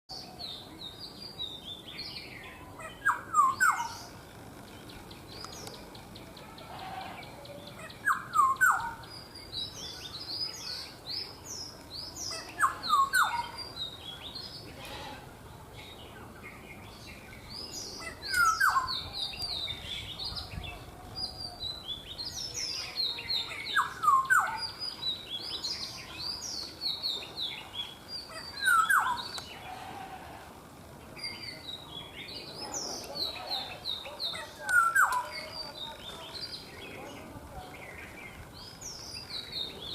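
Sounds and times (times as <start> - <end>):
birds chirping and twittering: 0.1 - 39.9.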